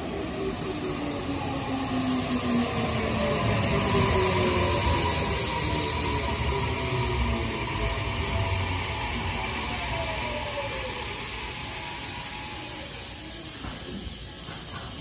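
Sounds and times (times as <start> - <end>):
train motors whining: 0.0 - 15.0.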